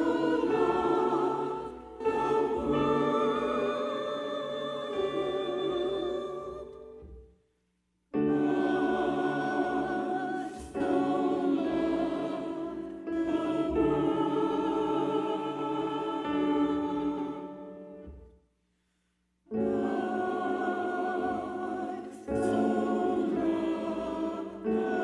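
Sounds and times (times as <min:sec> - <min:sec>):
choir singing held chords: 0:00.0 - 0:07.1, 0:08.2 - 0:18.1, 0:19.5 - 0:25.0.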